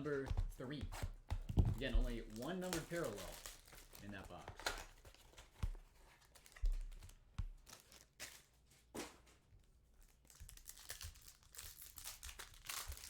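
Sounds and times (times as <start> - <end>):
card packs crinkling: 0.3 - 8.9, 10.0 - 13.0.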